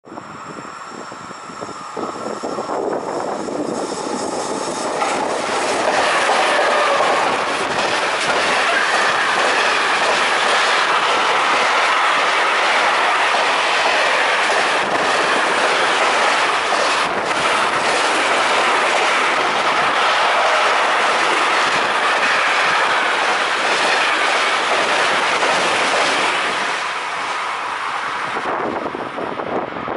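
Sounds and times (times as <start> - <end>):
freight train passing at speed: 0.0 - 29.9.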